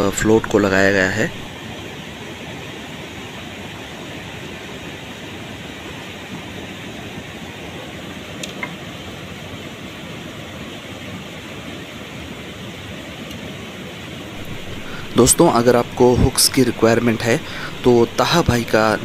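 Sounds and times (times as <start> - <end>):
rushing outdoor noise: 0.0 - 19.0.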